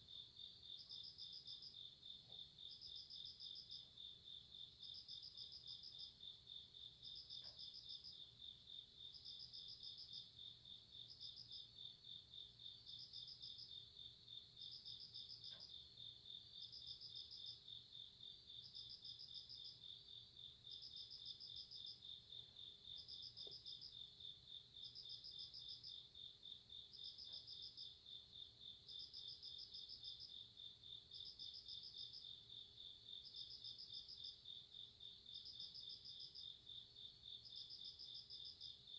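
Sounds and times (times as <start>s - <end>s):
cricket chirps: 0.0s - 38.9s.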